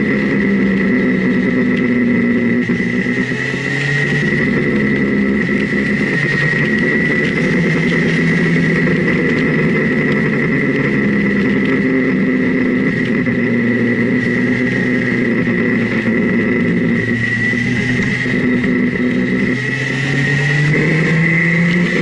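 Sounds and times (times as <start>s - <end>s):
car engine revving: 0.0s - 22.0s
steady high whine: 0.0s - 22.0s.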